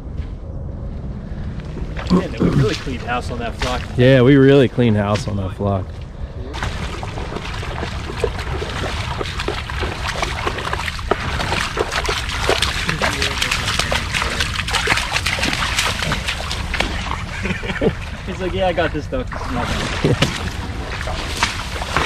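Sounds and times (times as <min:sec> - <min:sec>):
water splashing from wading: 0:01.8 - 0:04.2, 0:06.5 - 0:22.0.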